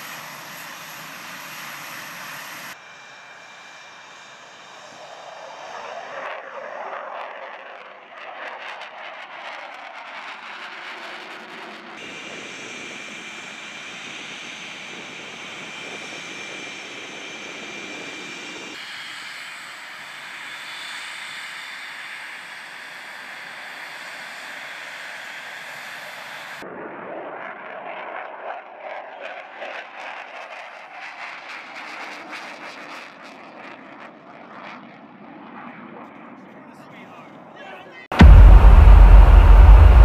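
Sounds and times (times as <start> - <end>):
jet engine roar with high whine: 0.0 - 40.0.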